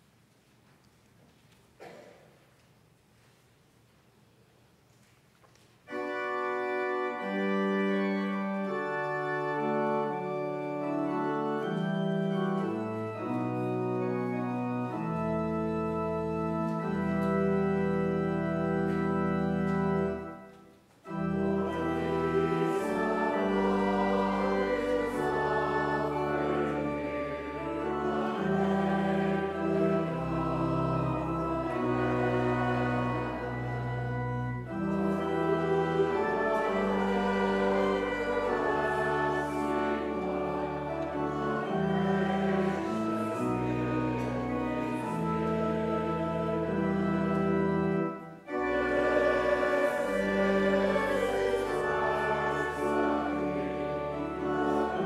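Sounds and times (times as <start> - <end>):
church organ chords: 5.8 - 55.0
congregation singing a hymn: 5.9 - 55.0.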